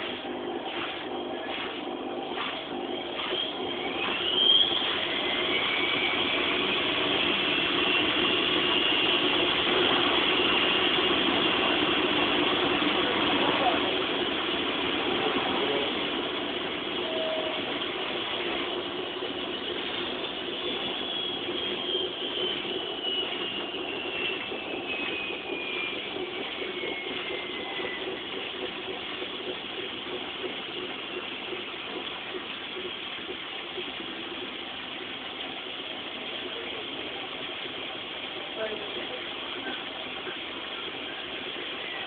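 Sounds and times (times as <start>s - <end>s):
high motor whine: 0.0s - 42.0s
washing machine spinning: 0.0s - 42.0s.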